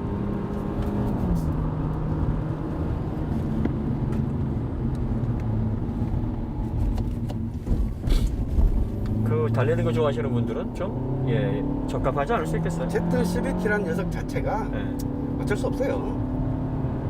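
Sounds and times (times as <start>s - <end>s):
car engine drone in cabin: 0.0s - 17.0s
tyre and road noise: 0.0s - 17.0s.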